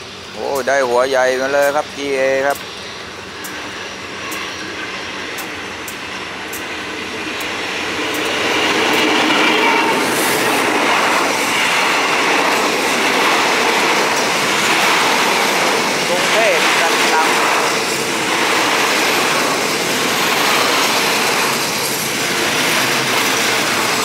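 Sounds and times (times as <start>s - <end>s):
train rumbling past: 0.0s - 24.0s
train wheels clicking over rail joints: 0.4s - 24.0s.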